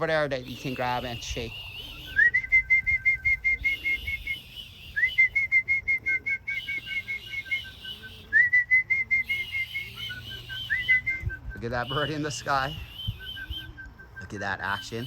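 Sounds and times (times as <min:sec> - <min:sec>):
call whistle rapid short notes: 0:00.5 - 0:15.0.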